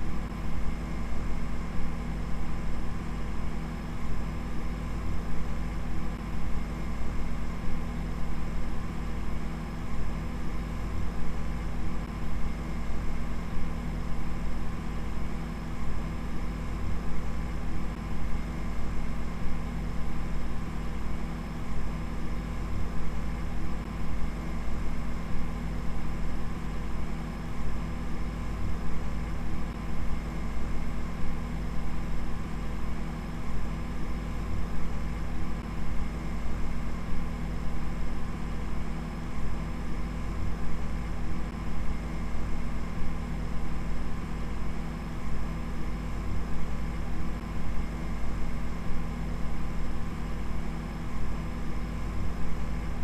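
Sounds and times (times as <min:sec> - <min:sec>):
mechanical hum with hiss: 0:00.0 - 0:53.0.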